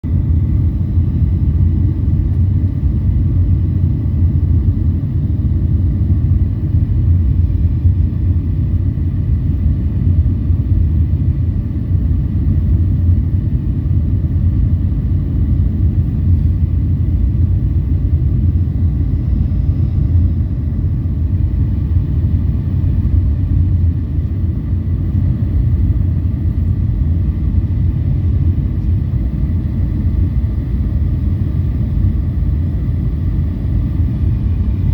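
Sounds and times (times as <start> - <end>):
airliner cabin engine rumble: 0.0 - 34.9
faint high whine: 0.1 - 34.9.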